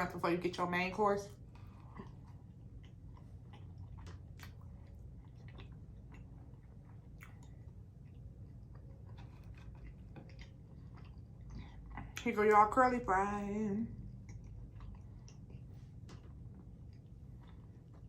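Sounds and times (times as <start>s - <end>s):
person chewing food: 1.4s - 12.3s, 13.9s - 18.0s.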